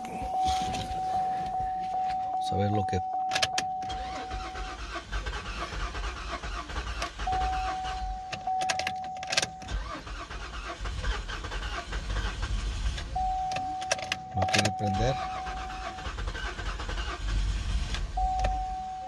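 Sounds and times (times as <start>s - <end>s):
car engine cranking on starter: 0.0s - 18.8s.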